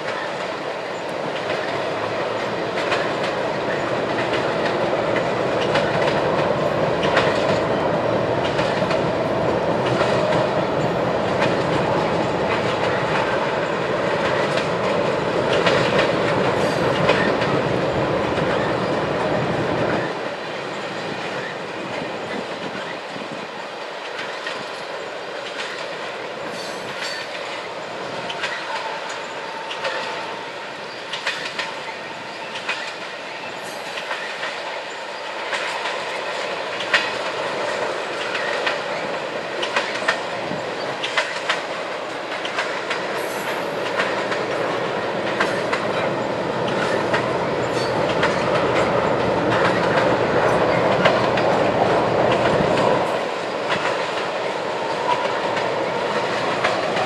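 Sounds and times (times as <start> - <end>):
wheels clicking over rail joints: 0.0 - 20.2, 24.0 - 30.3, 30.9 - 34.7, 35.4 - 57.0
railroad cars rumbling past: 0.0 - 57.0.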